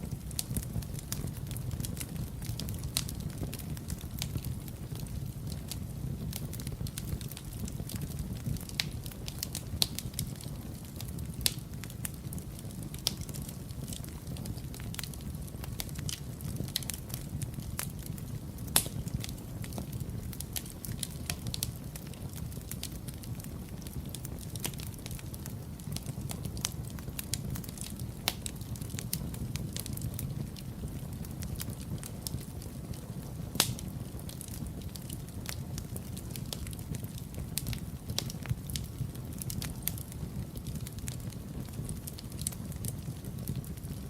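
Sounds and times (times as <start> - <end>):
fire crackling and popping: 0.0 - 44.0
fire flames rumbling: 0.0 - 44.0.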